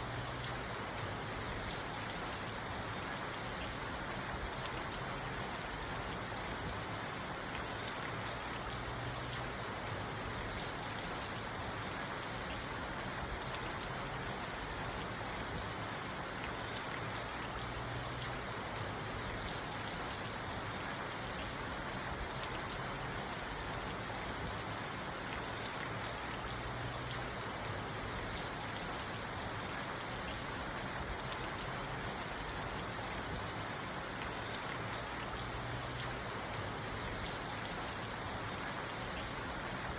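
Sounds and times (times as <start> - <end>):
rain falling on a car: 0.0 - 39.9.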